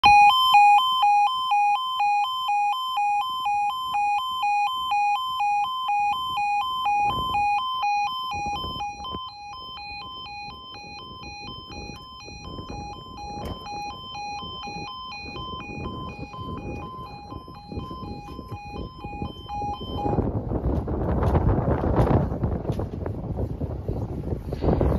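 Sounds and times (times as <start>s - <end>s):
two-tone level crossing alarm: 0.0s - 20.4s.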